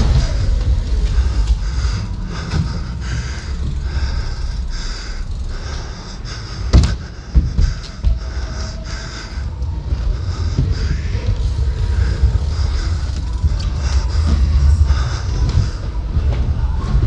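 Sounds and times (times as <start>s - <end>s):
bike tyre rumble and wind noise: 0.0s - 17.0s.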